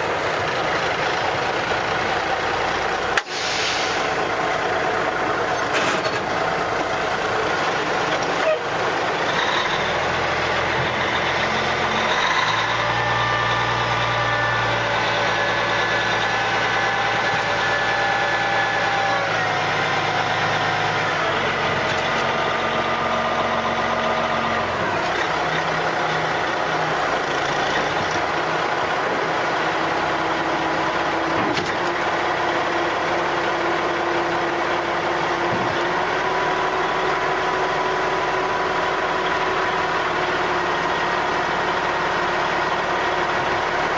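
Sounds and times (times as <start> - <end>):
diesel truck engine running: 0.0 - 43.9.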